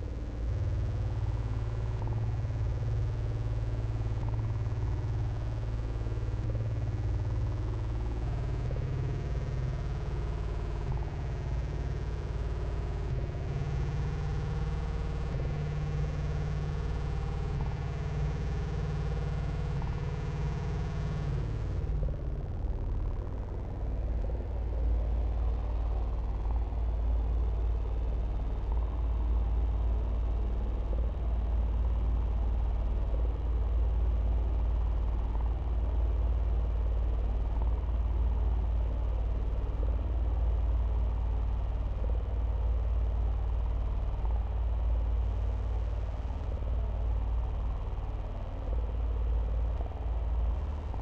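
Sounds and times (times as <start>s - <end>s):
deep rumble: 0.0s - 51.0s.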